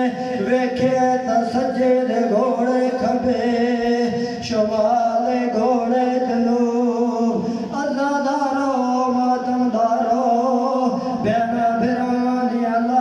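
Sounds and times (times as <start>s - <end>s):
man chanting over loudspeakers: 0.0s - 13.0s.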